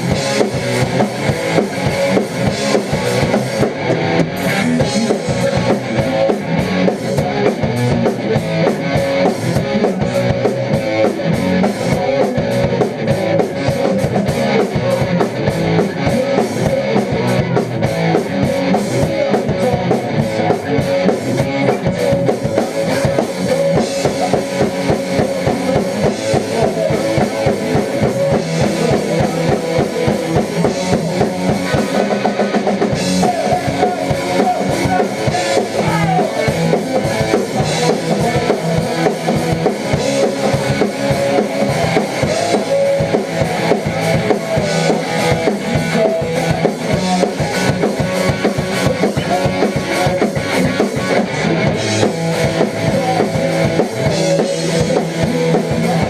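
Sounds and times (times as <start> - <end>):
heavy bass drum: 0.0 - 56.0
live rock band playing: 0.0 - 56.0.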